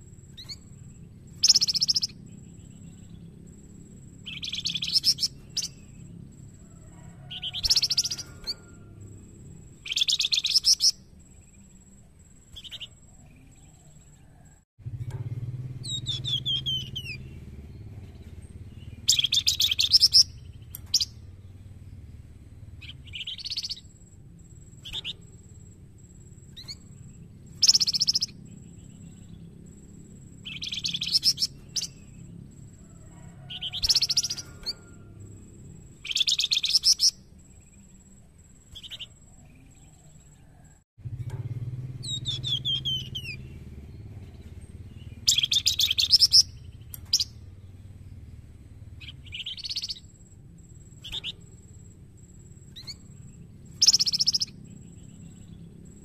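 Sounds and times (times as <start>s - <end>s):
songbird chattering song: 0.0s - 56.0s.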